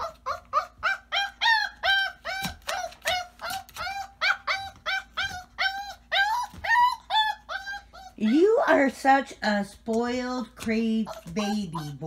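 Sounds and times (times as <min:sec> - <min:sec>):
puppy squealing: 0:00.0 - 0:09.0, 0:11.0 - 0:12.0.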